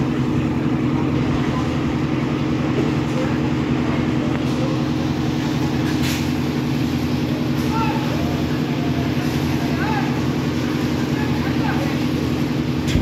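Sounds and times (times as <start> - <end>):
concrete mixer motor hum: 0.0 - 13.0.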